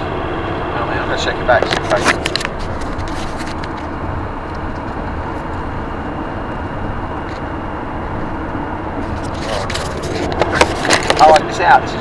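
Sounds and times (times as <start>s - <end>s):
road and engine noise in van: 0.0s - 12.0s.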